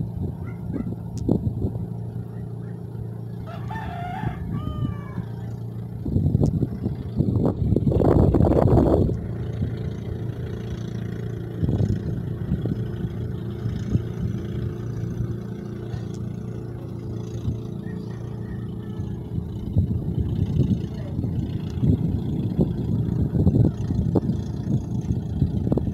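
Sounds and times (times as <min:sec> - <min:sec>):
ship diesel engine droning: 0:00.0 - 0:25.9.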